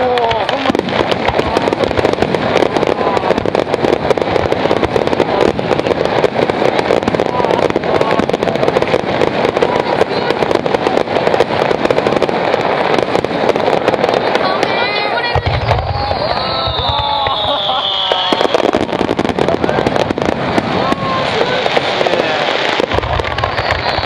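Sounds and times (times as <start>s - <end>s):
fireworks bursting and crackling: 0.0s - 24.0s.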